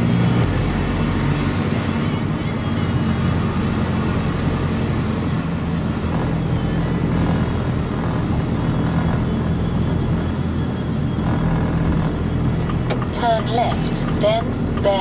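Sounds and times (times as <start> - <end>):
road noise: 0.0 - 15.0
van engine drone: 0.0 - 15.0.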